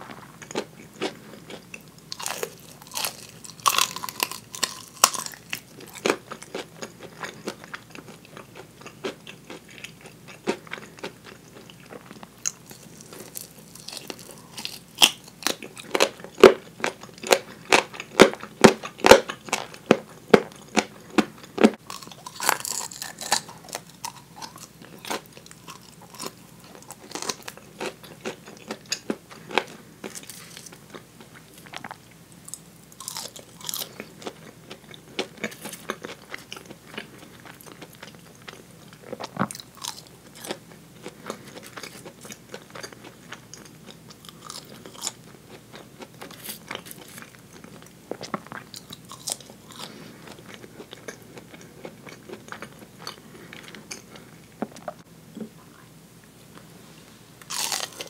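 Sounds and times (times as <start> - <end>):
crackly crunches: 0.0 - 54.9, 57.4 - 58.0
chewing fried chicken: 0.0 - 55.1, 57.4 - 58.0.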